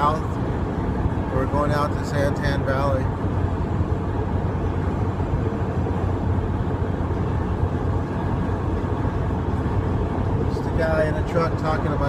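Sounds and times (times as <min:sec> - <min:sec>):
road noise inside truck cab: 0:00.0 - 0:12.0.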